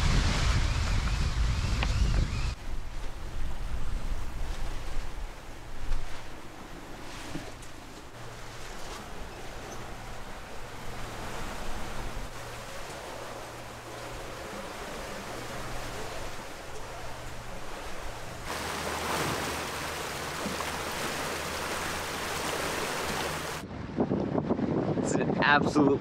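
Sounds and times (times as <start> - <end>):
steady low hum: 0.0 - 23.6
water rushing along hull: 0.0 - 24.8.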